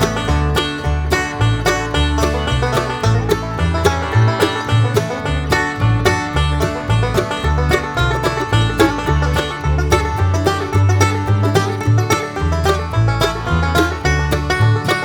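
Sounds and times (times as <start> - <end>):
upbeat banjo bluegrass music: 0.0 - 15.0.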